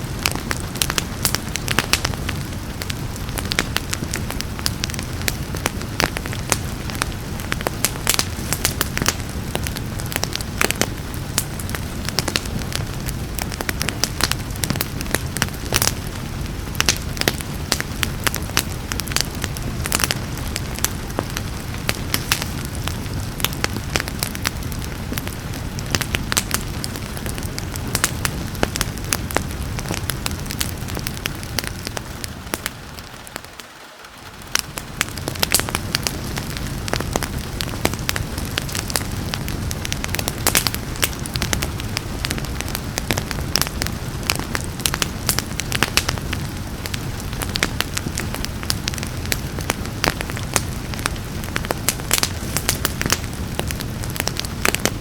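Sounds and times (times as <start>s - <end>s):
rain hissing: 0.0s - 55.0s
wood fire crackling and popping: 0.0s - 55.0s.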